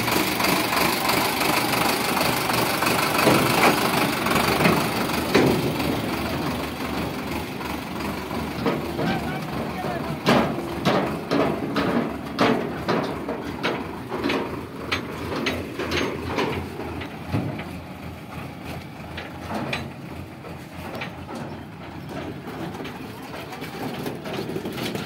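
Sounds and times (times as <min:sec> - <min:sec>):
tractor engine rumble: 0:00.0 - 0:25.0
trailer rattling and clanking: 0:00.0 - 0:25.0.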